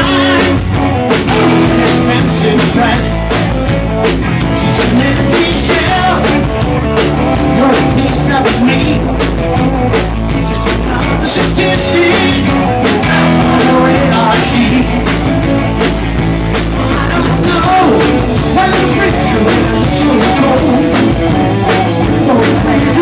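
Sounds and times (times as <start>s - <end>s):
person singing: 0.0s - 3.2s, 4.4s - 6.6s, 7.2s - 15.8s, 16.7s - 23.0s
drum kit hits: 0.0s - 23.0s
live rock band playing: 0.0s - 23.0s.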